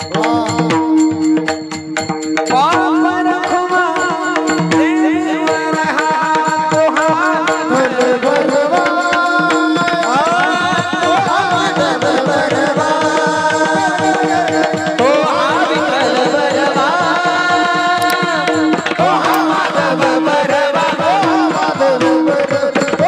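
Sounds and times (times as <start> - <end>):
tabla: 0.0 - 23.0.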